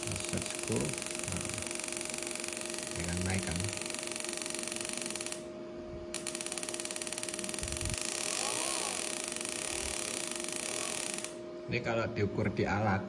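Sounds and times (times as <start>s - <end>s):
machine humming with fast ticking: 0.0s - 13.0s.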